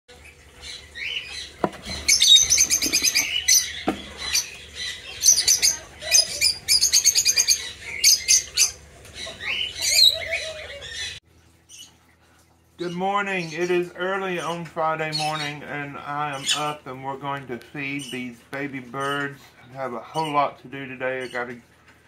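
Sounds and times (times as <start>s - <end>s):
lovebirds chirping: 0.1s - 12.0s, 12.8s - 21.6s.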